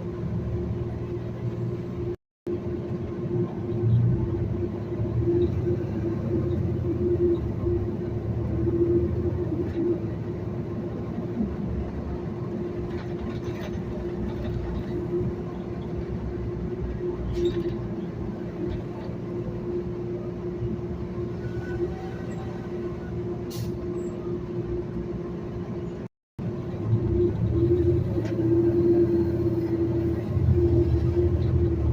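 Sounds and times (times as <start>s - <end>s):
bus engine and road rumble: 0.0s - 31.9s.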